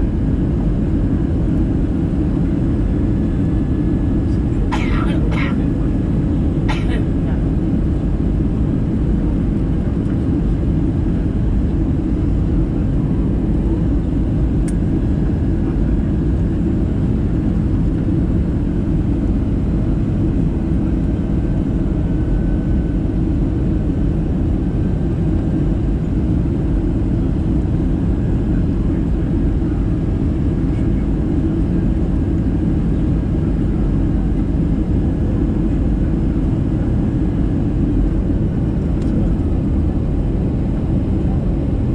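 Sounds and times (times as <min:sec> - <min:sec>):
jet engines rumbling: 0:00.0 - 0:41.9.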